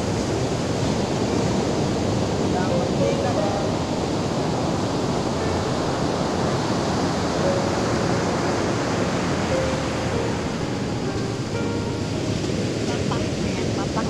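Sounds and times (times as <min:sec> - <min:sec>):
surf breaking on shore: 0:00.0 - 0:14.0.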